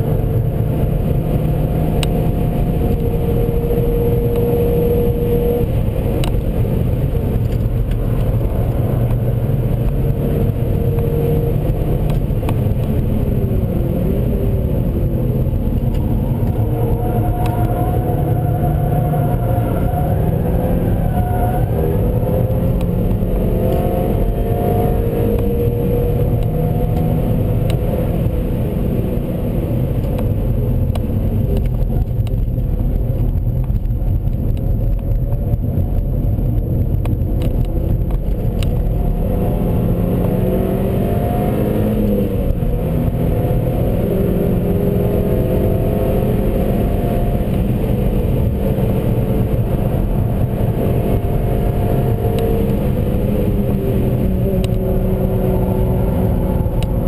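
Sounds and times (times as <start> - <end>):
car engine accelerating: 0.0 - 57.0
road and wind rumble: 0.0 - 57.0.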